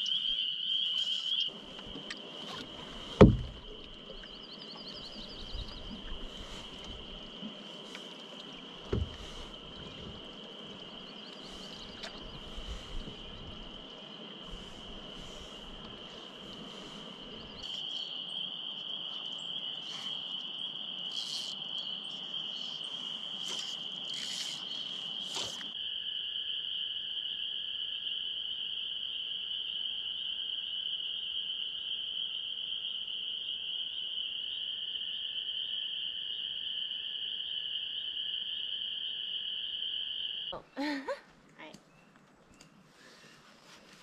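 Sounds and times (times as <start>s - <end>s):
frogs calling: 0.0s - 43.2s.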